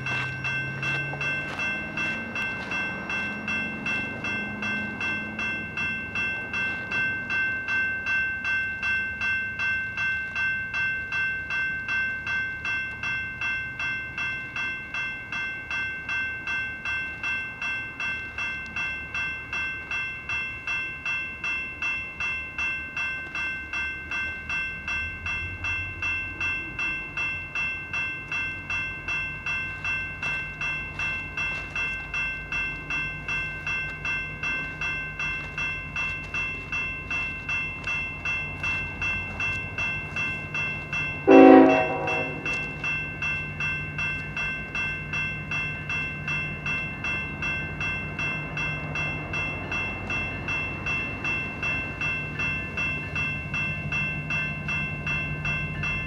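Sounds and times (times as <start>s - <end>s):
crossing bell ringing: 0.0s - 56.0s.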